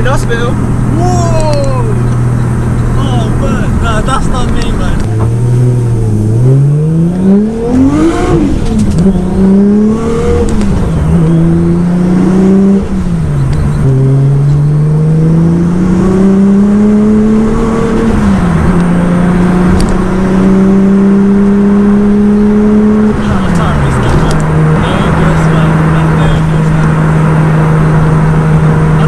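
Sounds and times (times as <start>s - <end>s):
car engine accelerating through gears: 0.0s - 29.0s.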